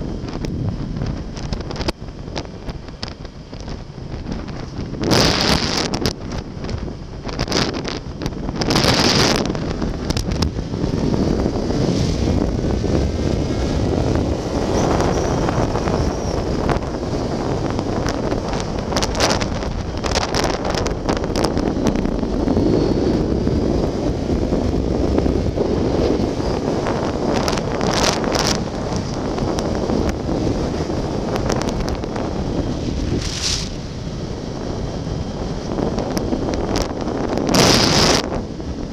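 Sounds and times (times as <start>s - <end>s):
motorcycle engine: 0.0s - 38.9s
road noise: 0.0s - 38.9s
wind buffeting microphone: 0.0s - 38.9s.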